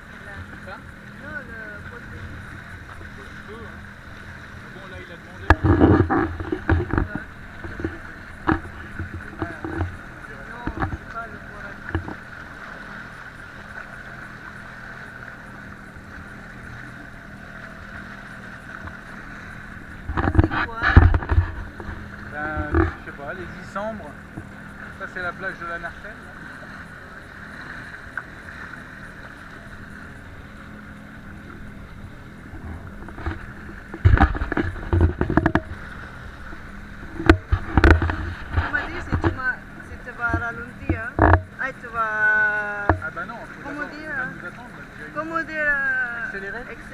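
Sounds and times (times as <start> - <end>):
jet ski engine droning: 0.0 - 46.9.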